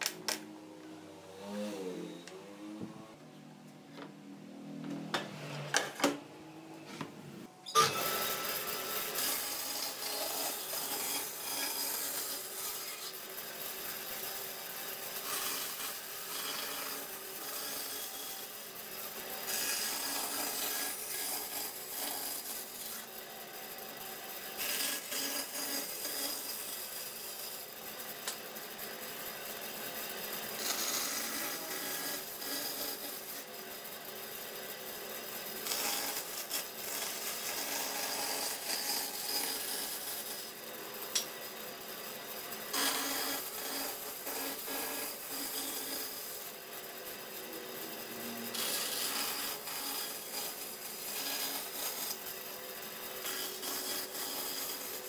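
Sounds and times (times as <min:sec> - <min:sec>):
band saw cutting wood: 0:00.0 - 0:03.2, 0:07.6 - 0:55.0.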